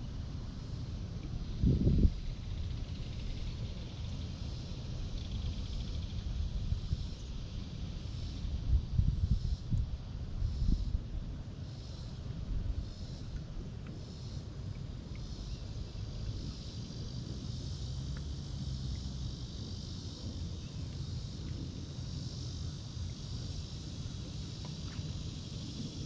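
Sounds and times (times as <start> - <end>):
insects buzzing high-pitched: 0.0 - 26.0.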